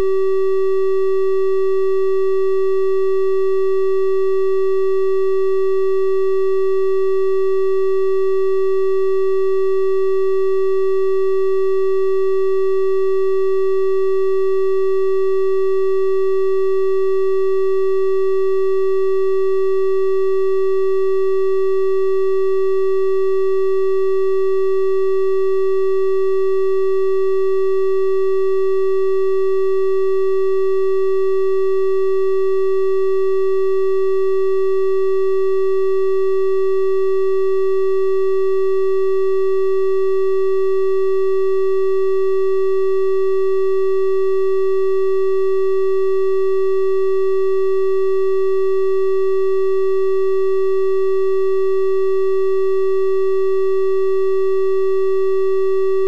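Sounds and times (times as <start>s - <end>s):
steady electronic triangle-wave tone: 0.0s - 56.0s.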